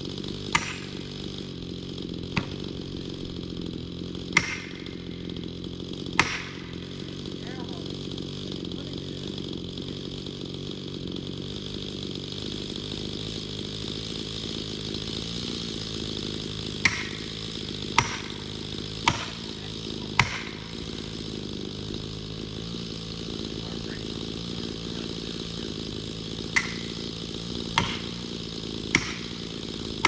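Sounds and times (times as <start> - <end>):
chainsaw engine running: 0.0 - 30.0.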